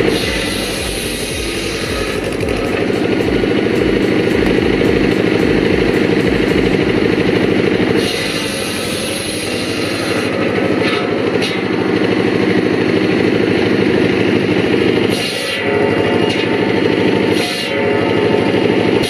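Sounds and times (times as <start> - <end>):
engine running loudly: 0.0 - 19.0.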